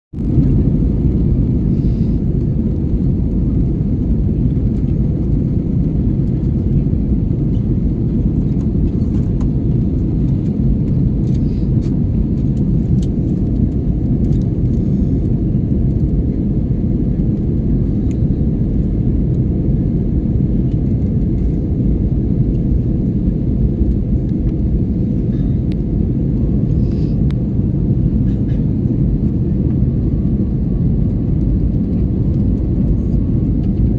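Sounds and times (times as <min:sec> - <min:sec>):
jet engine and airflow rumble: 0:00.1 - 0:33.9.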